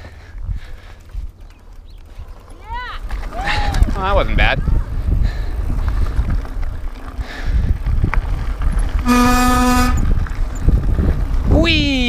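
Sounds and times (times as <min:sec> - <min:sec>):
bike tyres rumbling on dirt: 0:00.0 - 0:12.0
wind on camera: 0:00.3 - 0:12.0.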